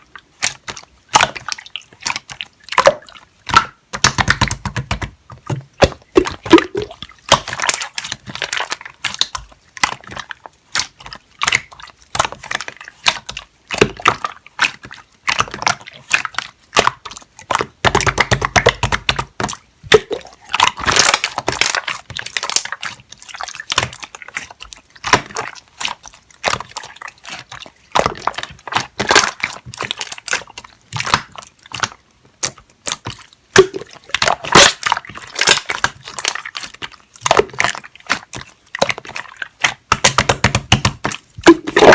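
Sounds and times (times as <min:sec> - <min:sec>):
slime squishing and popping: 0:00.3 - 0:41.9.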